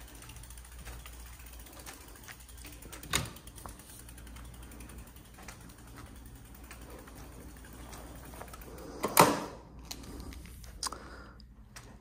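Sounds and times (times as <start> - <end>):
bike freewheel ratcheting ticks: 0.0 - 10.7.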